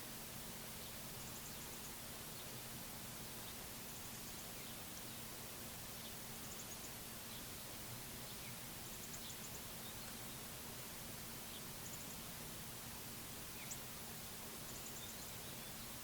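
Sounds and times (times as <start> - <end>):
songbird chirps: 0.0 - 16.0
steady outdoor hiss: 0.0 - 16.0.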